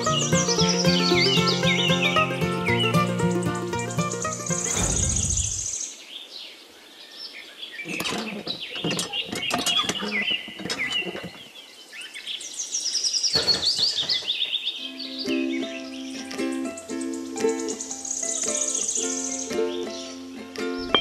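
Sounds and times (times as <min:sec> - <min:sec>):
birds chirping and tweeting: 0:00.0 - 0:21.0.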